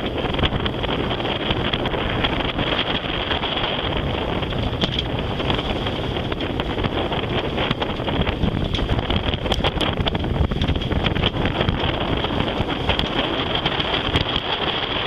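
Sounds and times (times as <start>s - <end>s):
choppy water rushing: 0.0s - 15.0s
wind buffeting microphone: 0.0s - 15.0s.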